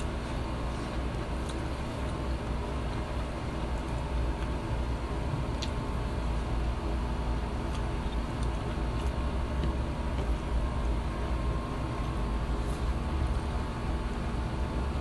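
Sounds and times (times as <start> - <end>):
low machine hum with tones: 0.0 - 15.0.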